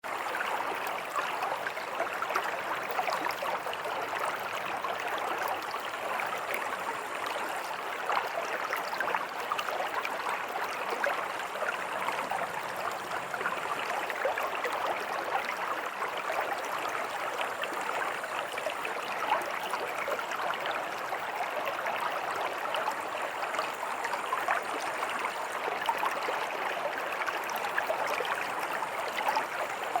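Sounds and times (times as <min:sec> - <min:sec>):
river water flowing: 0:00.1 - 0:30.0.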